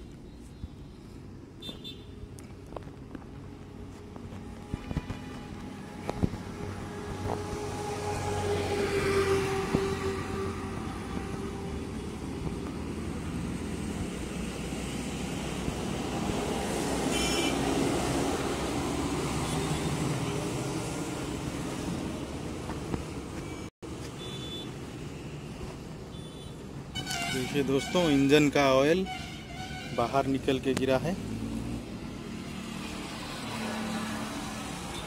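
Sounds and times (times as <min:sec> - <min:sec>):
highway traffic rumble: 0:00.0 - 0:35.0.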